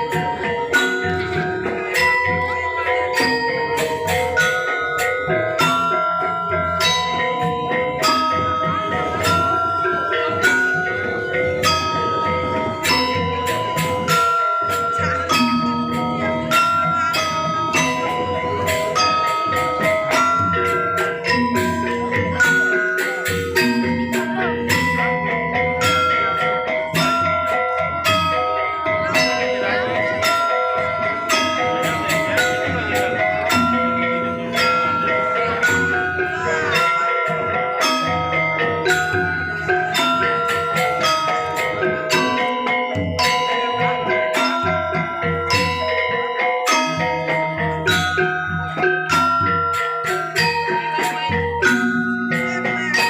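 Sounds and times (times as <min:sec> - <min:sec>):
gamelan playing: 0:00.0 - 0:53.0.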